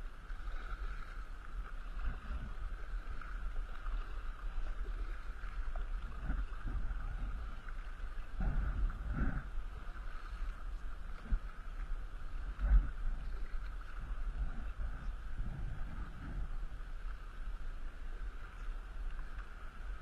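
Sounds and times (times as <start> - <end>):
paddle splashing in water: 0.0 - 20.0
wind rumble on microphone: 0.0 - 20.0.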